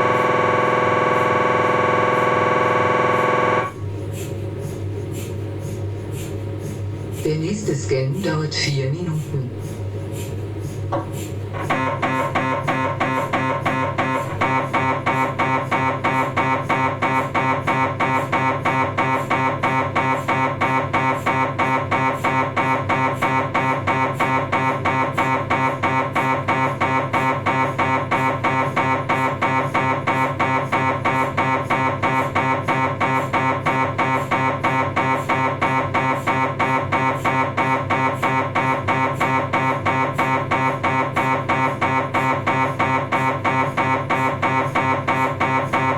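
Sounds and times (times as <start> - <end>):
mri scanner loud fast knocking: 0.0 - 6.4, 9.5 - 45.9.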